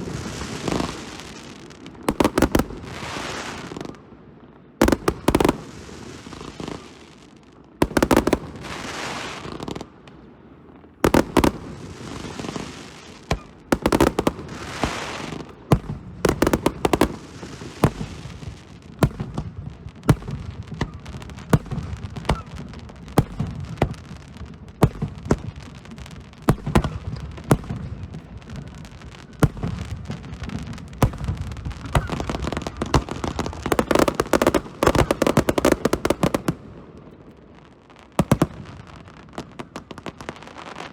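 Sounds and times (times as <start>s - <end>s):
firework crackling: 0.0s - 4.0s, 4.8s - 40.9s.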